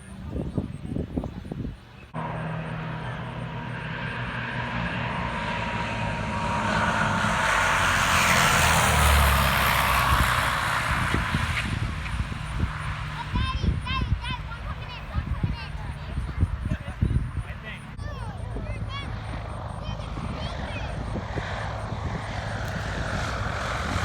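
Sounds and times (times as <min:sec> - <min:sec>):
propeller airplane passing by: 0:00.0 - 0:24.0.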